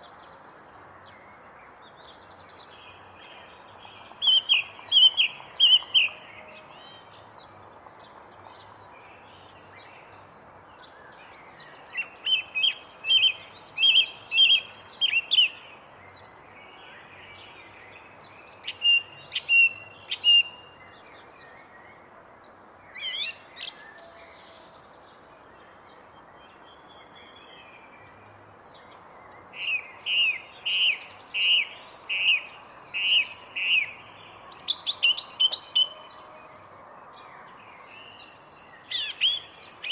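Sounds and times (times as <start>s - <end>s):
songbird chirping: 0.0s - 39.9s
steady background hiss: 0.0s - 39.9s.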